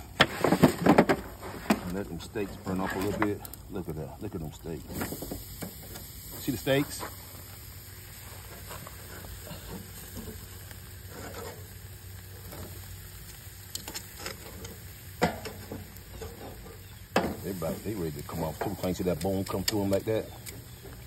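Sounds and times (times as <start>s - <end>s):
steaks sizzling over charcoal: 0.0s - 21.0s.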